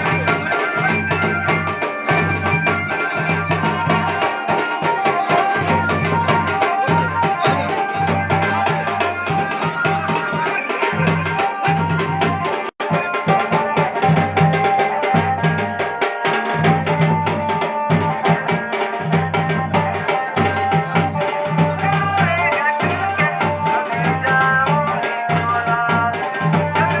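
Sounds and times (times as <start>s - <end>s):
drums beating a rhythm: 0.0s - 27.0s
wedding band music: 0.0s - 27.0s.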